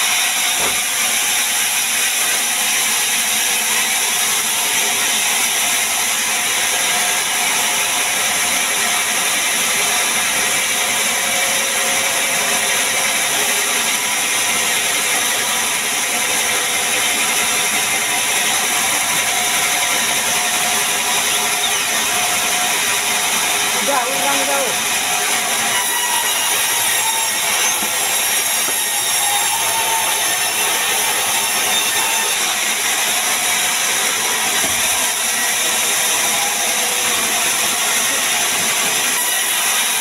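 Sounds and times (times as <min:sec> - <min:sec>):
band saw whirring: 0:00.0 - 0:40.0.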